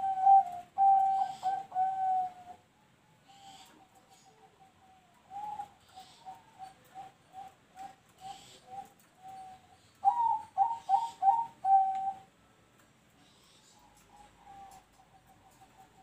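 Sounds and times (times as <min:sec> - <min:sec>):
dove cooing: 0:00.0 - 0:12.3, 0:13.2 - 0:16.0.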